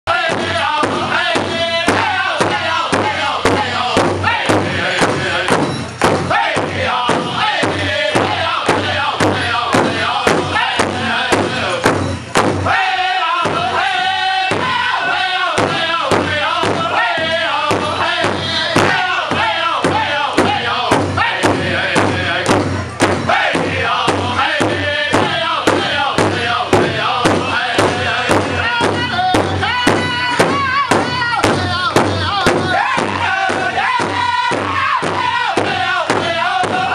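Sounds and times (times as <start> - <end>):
men singing together: 0.1 - 36.9
large hide drum beating: 0.2 - 36.9.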